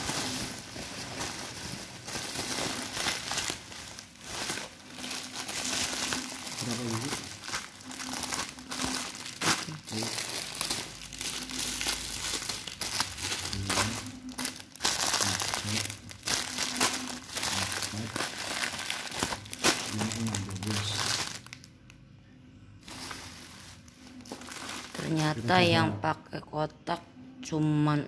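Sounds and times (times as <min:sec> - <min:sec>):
bubble wrap crinkling: 0:00.0 - 0:21.8, 0:22.8 - 0:25.7.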